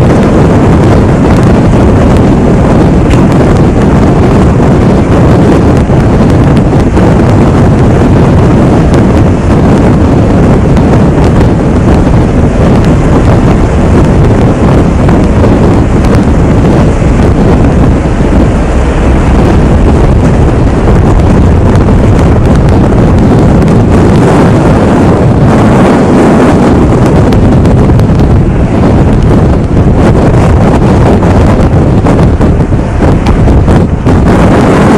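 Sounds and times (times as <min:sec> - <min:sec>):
strong wind on microphone: 0:00.0 - 0:34.9.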